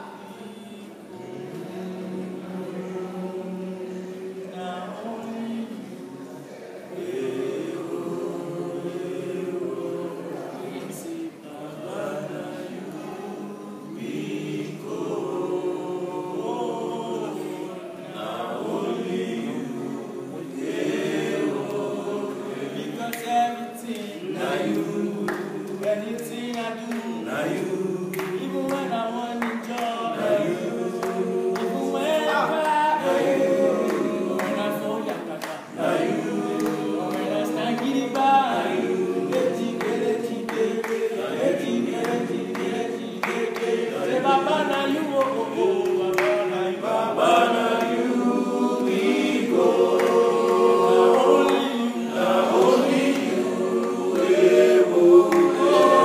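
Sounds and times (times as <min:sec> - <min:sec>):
men singing a cappella: 0:00.0 - 0:56.0.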